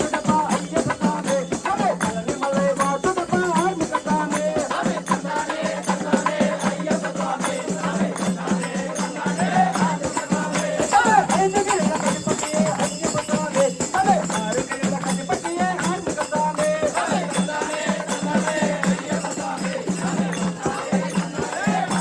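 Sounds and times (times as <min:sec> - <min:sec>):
rattling hand percussion: 0:00.0 - 0:22.0
voices singing devotional song: 0:00.0 - 0:22.0.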